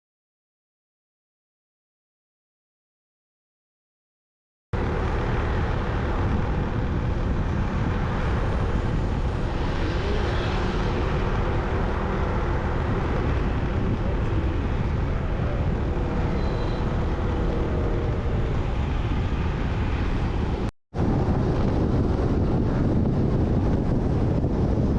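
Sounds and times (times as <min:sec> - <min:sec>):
motorcycle engine hum: 0:04.8 - 0:24.9
wind on microphone: 0:04.8 - 0:24.9.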